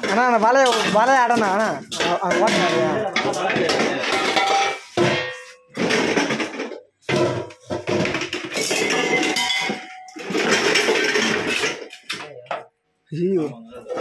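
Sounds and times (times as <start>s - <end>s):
steel pots clattering: 0.0s - 12.2s.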